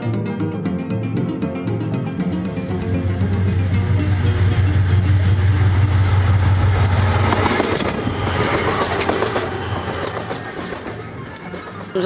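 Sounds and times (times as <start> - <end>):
train engine rumble: 1.7 - 12.0
train rattling clatter: 2.1 - 12.0.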